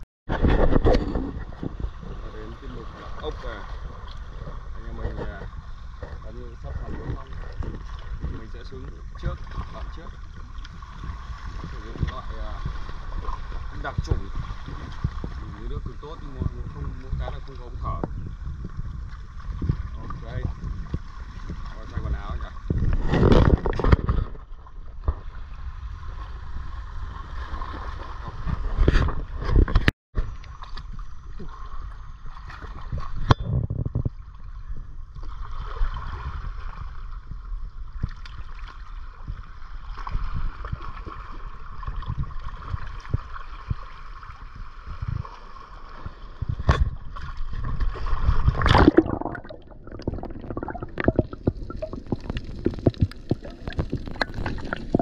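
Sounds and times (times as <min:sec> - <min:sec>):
water splashes: 0:00.3 - 0:34.5, 0:35.1 - 0:55.0
sea water sloshing and gurgling: 0:00.3 - 0:55.0.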